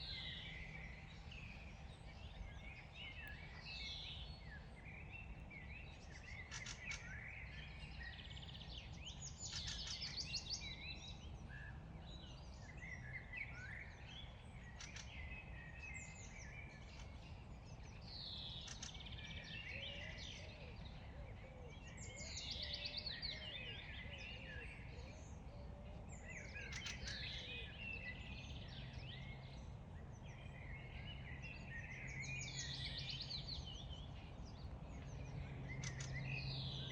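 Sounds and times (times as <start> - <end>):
songbirds singing: 0.0 - 36.9.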